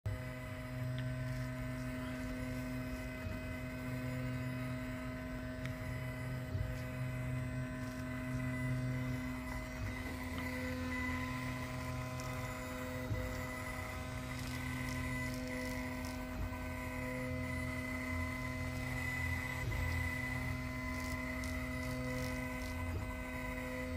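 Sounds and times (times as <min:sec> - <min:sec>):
laser engraver humming: 0:00.1 - 0:23.9.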